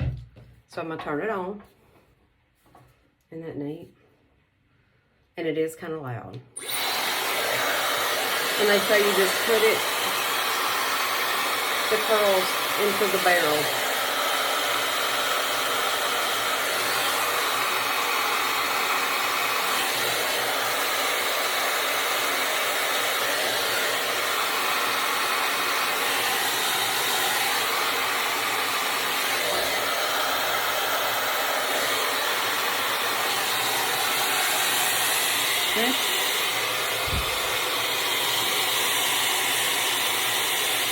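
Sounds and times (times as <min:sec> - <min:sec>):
hair dryer blowing air: 0:06.6 - 0:40.9.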